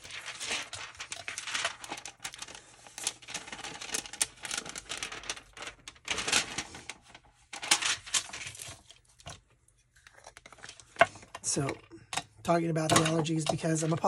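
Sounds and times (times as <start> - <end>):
paper envelope rustling and crinkling: 0.0 - 11.7, 13.0 - 14.0.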